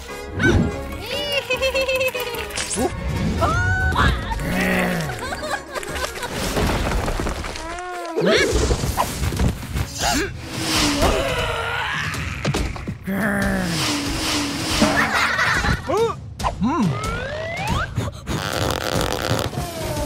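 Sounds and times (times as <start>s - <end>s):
cartoon background music: 0.0s - 6.4s, 9.9s - 20.0s.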